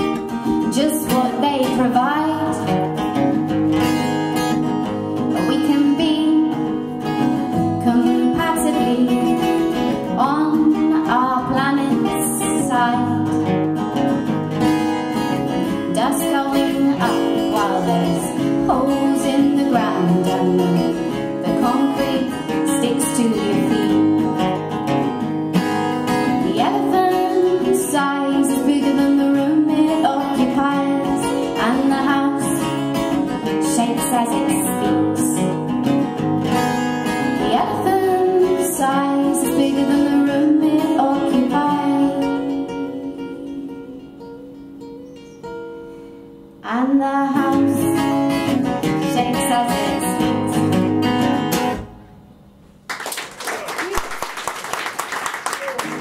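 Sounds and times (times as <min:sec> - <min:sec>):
acoustic guitars playing folk: 0:00.0 - 0:52.8, 0:55.7 - 0:56.0.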